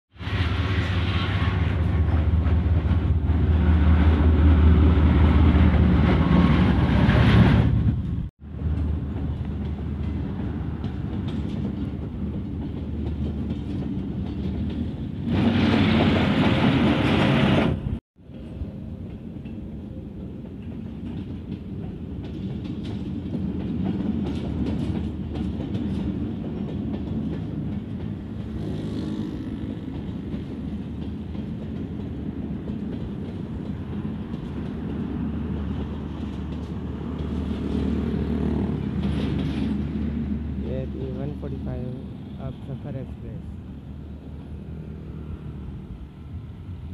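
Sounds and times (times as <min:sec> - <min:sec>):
train rumbling past: 0:00.1 - 0:46.9.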